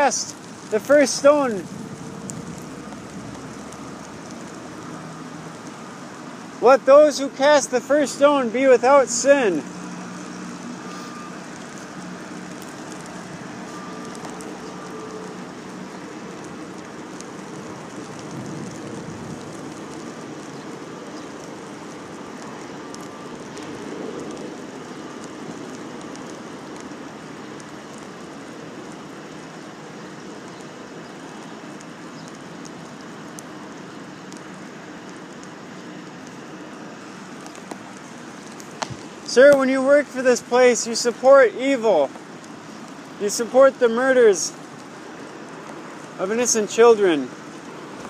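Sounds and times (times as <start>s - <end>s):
raindrops ticking: 0.0s - 48.0s
steady rain hiss: 0.0s - 48.0s.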